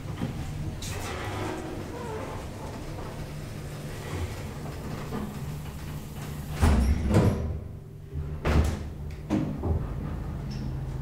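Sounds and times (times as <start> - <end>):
elevator doors sliding shut: 0.0 - 9.0.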